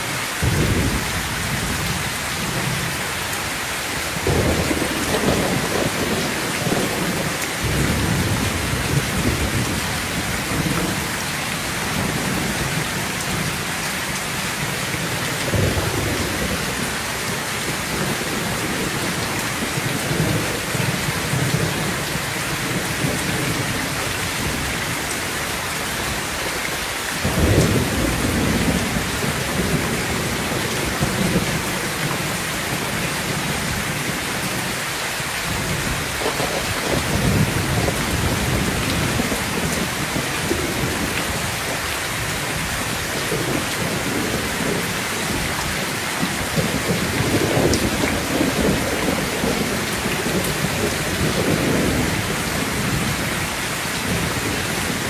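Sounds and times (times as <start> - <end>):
heavy rain on metal roof: 0.0 - 55.0
thunder rumbling: 4.2 - 13.7, 14.4 - 25.2, 27.2 - 34.8, 35.5 - 55.0.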